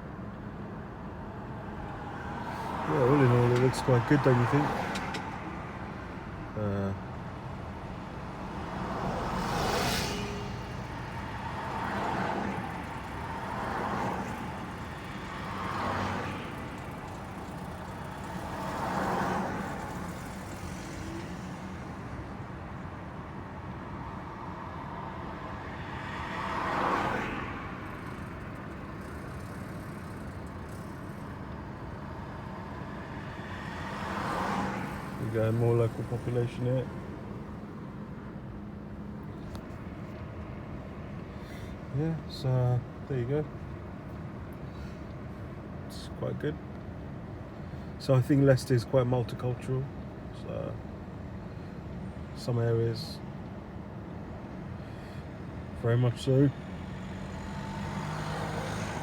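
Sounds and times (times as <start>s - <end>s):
cars passing: 0.0s - 59.0s
steady traffic hum: 0.0s - 59.0s.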